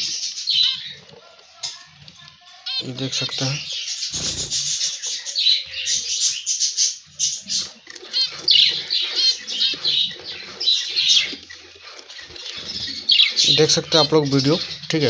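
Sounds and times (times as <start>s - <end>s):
budgerigars chattering: 0.0s - 1.1s, 2.6s - 15.0s.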